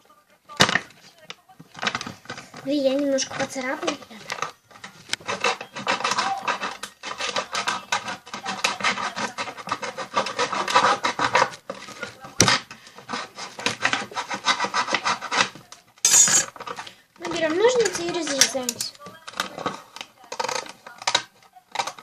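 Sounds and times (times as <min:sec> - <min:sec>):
plastic tub being cut: 0:01.8 - 0:22.0.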